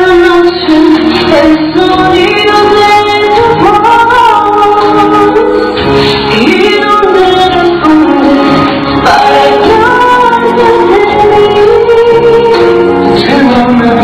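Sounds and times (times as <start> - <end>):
woman singing into a microphone: 0.0 - 14.0.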